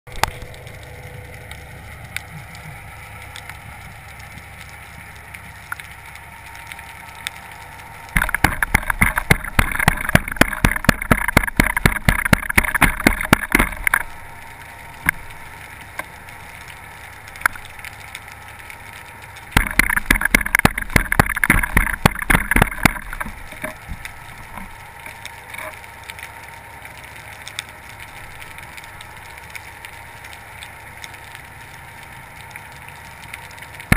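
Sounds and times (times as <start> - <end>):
rapid crackling clicks: 0.1 - 33.9.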